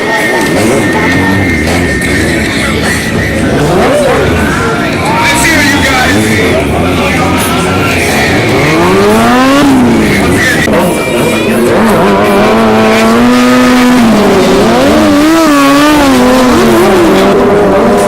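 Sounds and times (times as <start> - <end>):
motorcycle engine revving hard: 0.1 - 18.0.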